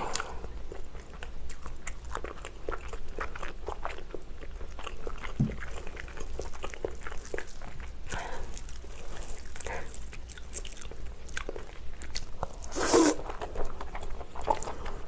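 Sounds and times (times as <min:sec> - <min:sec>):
mouth chewing noodles: 0:00.0 - 0:15.0.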